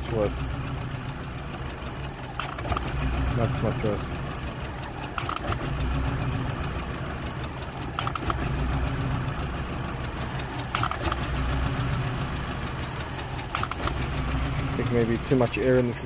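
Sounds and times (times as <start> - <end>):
car engine idling roughly: 0.0 - 16.0.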